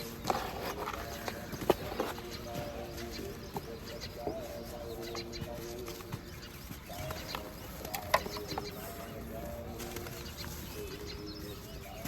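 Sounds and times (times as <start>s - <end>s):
birds calling low notes: 0.0s - 12.0s.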